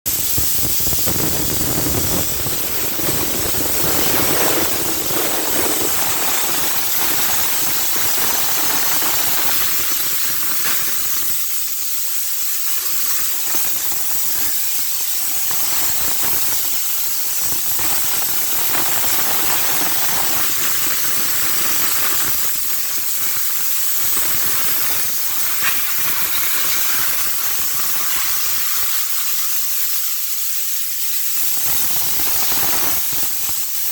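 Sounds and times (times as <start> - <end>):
high-pressure spray jet hissing: 0.1 - 33.9.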